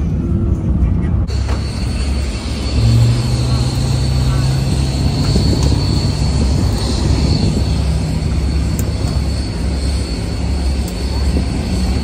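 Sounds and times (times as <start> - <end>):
jet engines and airflow rumble: 0.0 - 12.0
thin high whine: 1.2 - 12.0.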